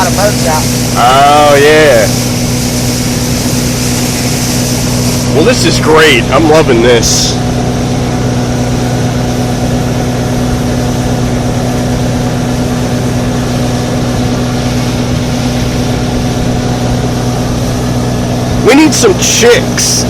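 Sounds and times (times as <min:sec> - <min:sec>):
motorboat engine running: 0:00.0 - 0:20.0
rush of wind and water: 0:00.0 - 0:20.0.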